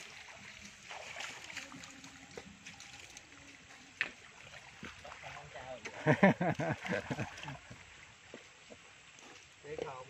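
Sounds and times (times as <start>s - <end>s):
water trickling and sloshing: 0.0s - 10.0s.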